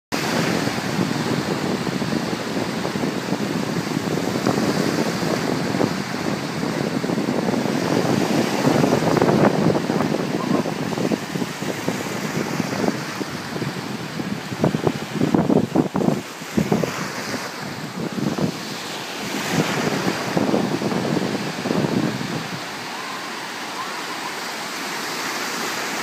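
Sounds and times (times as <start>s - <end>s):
wind buffeting microphone: 0.1s - 25.2s
small waves breaking: 0.2s - 26.0s.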